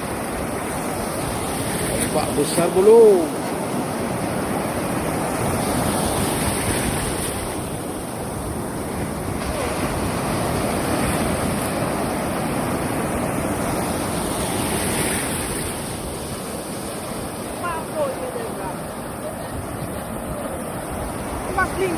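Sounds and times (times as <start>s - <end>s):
surf breaking on beach: 0.0s - 21.9s
wind on microphone: 0.0s - 21.9s.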